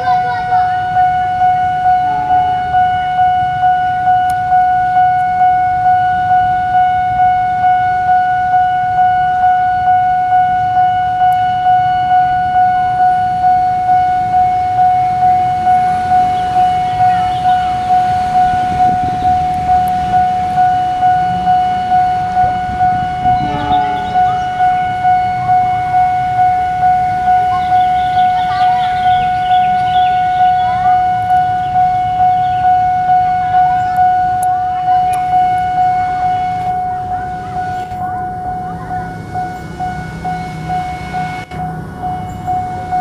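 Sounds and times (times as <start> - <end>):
diesel locomotive engine rumbling: 0.0 - 43.0
level crossing alarm pulsing: 0.0 - 43.0.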